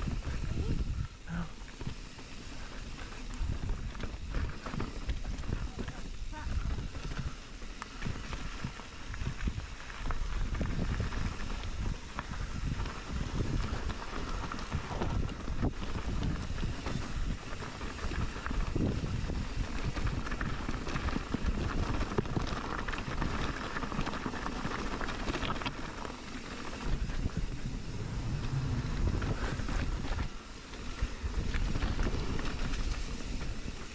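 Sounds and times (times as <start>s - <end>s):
wind buffeting microphone: 0.0s - 1.5s, 2.8s - 33.9s
mountain bike rattling on trail: 0.0s - 33.9s.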